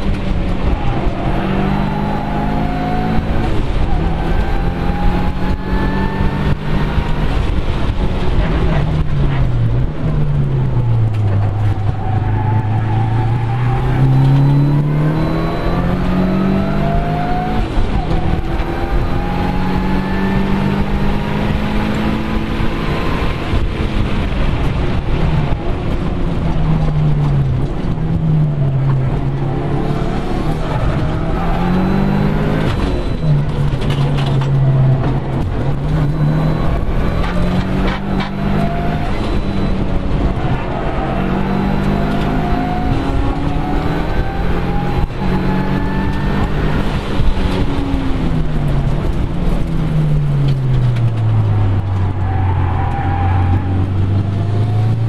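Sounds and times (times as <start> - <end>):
car engine revving hard: 0.0 - 55.0
road noise rush: 0.0 - 55.0.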